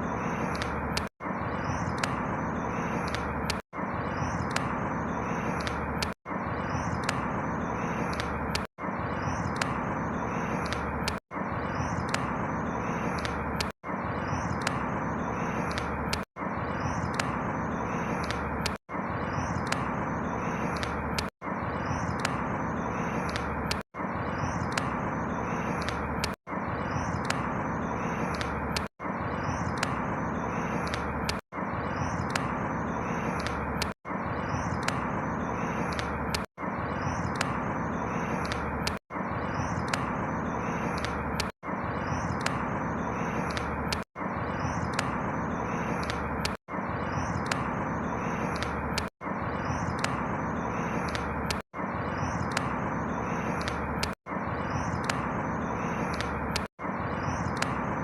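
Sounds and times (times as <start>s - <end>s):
faint high chirps: 0.0s - 58.0s.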